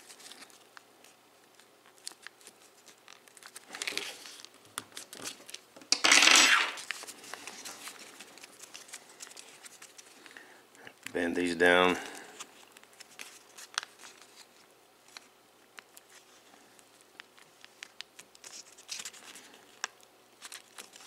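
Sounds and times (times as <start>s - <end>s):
paper crinkling and rustling: 0.0s - 5.7s, 6.8s - 10.4s, 11.0s - 21.0s.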